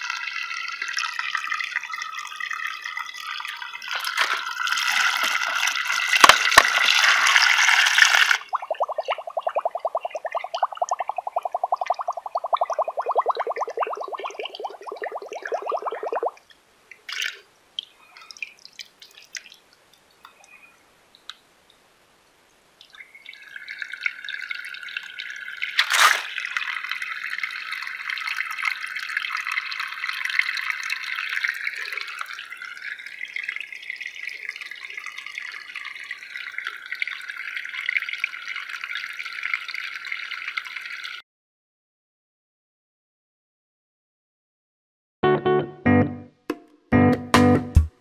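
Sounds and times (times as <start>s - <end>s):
water dripping: 0.0s - 21.8s, 22.5s - 41.2s
water trickling: 0.0s - 21.8s, 22.8s - 41.2s.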